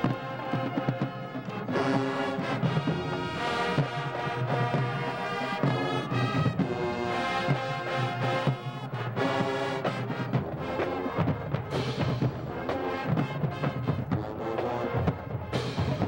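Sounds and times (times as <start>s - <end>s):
brass band chords: 0.0s - 16.0s
drumline playing: 0.0s - 16.0s.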